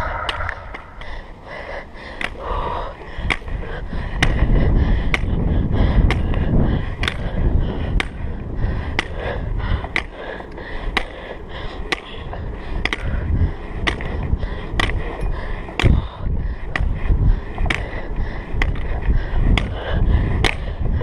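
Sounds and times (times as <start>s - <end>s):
pole tips clicking on asphalt: 0.0s - 1.3s, 2.0s - 21.0s
wheels rumbling on road: 0.0s - 21.0s.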